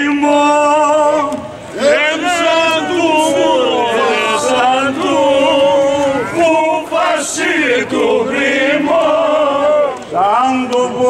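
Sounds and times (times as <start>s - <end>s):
men singing together: 0.0s - 11.0s.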